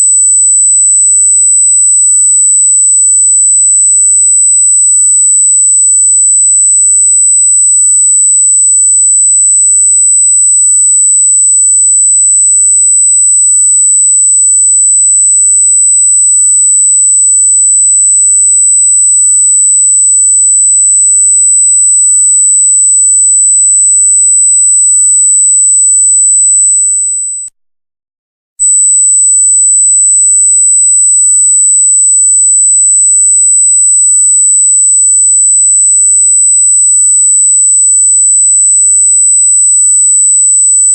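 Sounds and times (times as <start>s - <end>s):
high-pitched sine tone: 0.0s - 27.6s, 28.6s - 40.9s.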